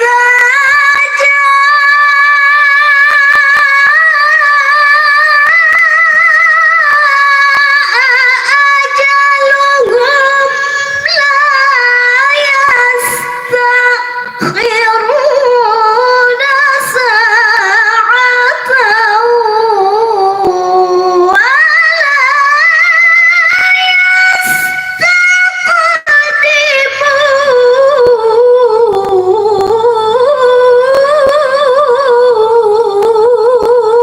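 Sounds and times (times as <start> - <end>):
woman chanting melodically: 0.0 - 34.0.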